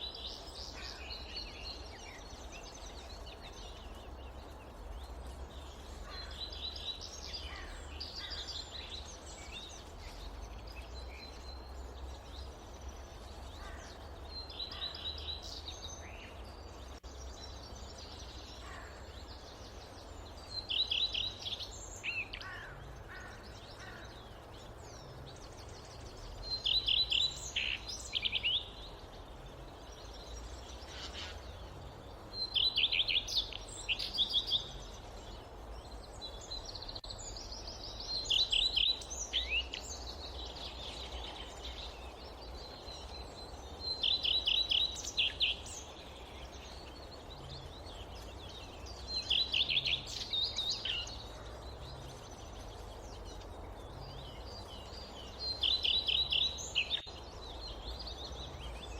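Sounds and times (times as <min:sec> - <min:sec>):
low background noise: 0:00.0 - 0:58.9.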